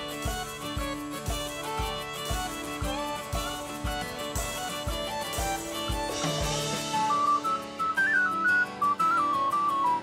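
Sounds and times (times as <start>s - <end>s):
instrumental music with beat: 0.0s - 10.0s.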